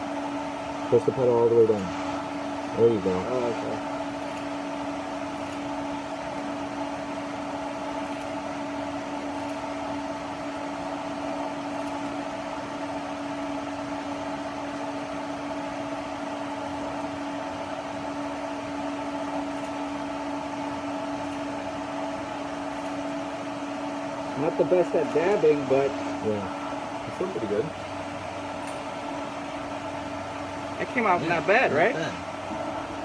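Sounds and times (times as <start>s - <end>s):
welding arc buzzing: 0.0s - 33.0s.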